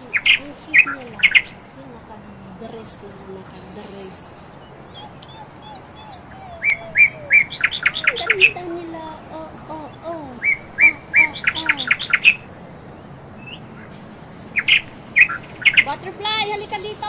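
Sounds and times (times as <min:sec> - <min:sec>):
bird singing: 0:00.0 - 0:17.0.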